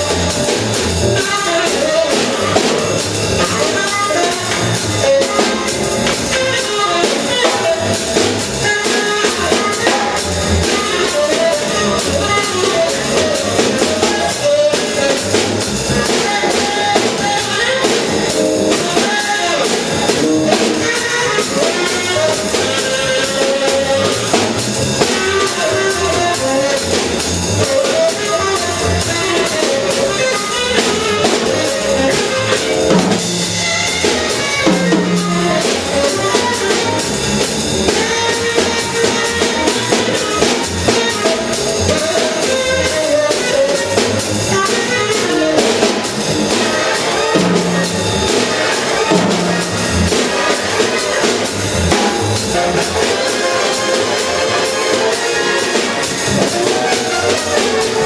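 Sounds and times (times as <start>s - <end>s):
big band swing music: 0.0s - 58.0s
drum kit playing: 0.0s - 58.0s.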